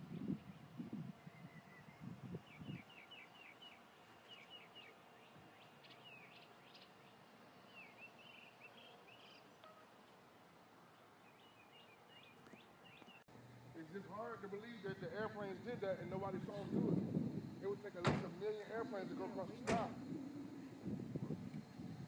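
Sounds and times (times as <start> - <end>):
faint birds chirping: 0.0 - 21.8.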